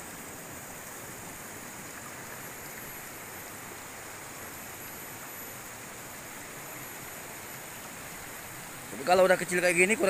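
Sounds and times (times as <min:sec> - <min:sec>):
stream running over rocks: 0:00.0 - 0:10.0.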